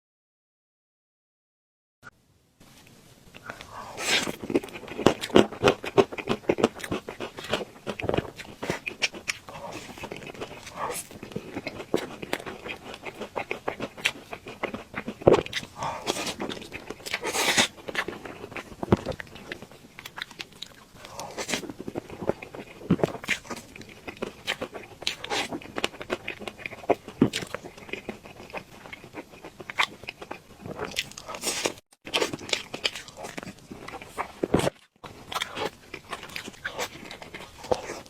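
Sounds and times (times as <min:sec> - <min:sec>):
person chewing cake: 0:03.3 - 0:38.0.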